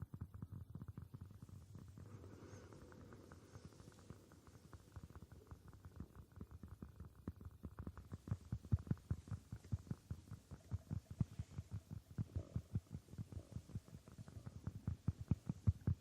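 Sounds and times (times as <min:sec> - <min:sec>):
rapid dull tapping: 0:00.0 - 0:16.0.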